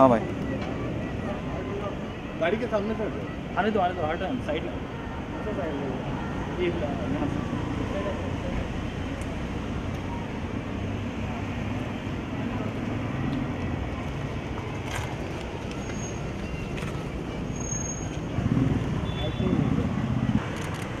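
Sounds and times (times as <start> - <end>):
vehicle engines and street traffic: 0.0 - 21.0.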